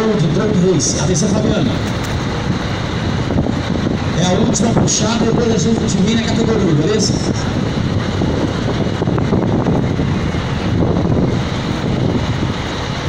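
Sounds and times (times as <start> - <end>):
truck engines idling: 0.0 - 13.0
wind buffeting microphone: 0.0 - 13.0.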